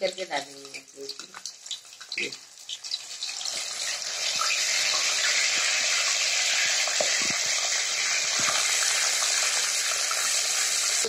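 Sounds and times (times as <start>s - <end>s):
oil popping: 0.0s - 10.8s
fish sizzling in hot oil: 0.0s - 11.0s.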